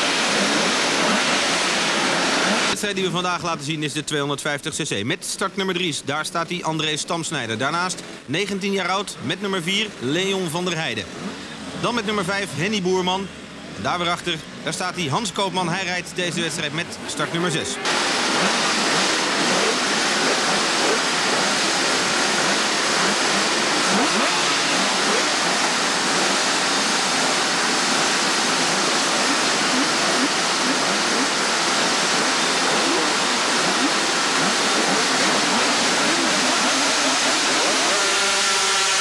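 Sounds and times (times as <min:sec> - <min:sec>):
racing motorcycle engines revving: 0:00.0 - 0:02.8, 0:09.1 - 0:39.0.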